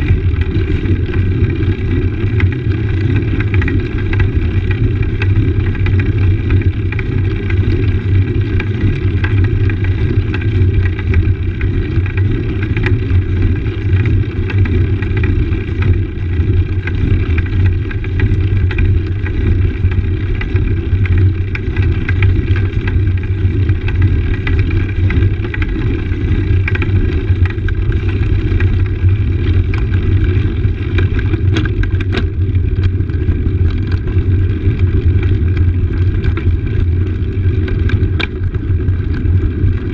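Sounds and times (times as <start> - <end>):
bike tyres rumbling on stone paving: 0.0 - 39.9.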